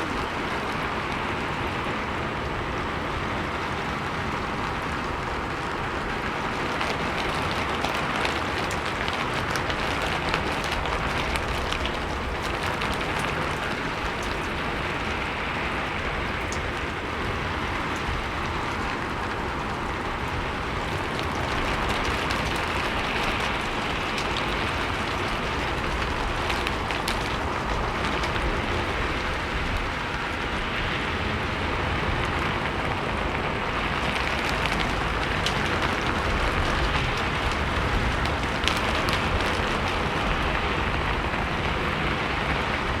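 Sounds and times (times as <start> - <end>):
rain falling on a roof: 0.0 - 43.0.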